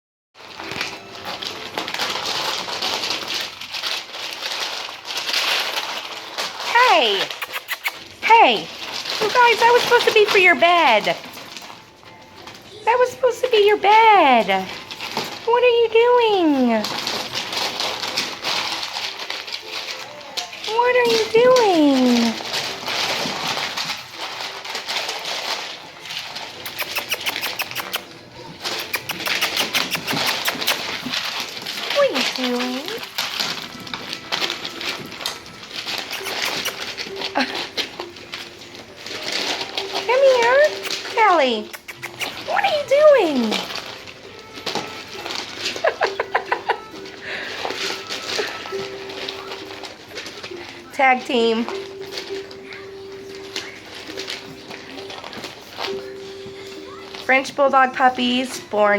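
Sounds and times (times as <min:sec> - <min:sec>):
puppies rustling through bedding: 0:00.4 - 0:58.9.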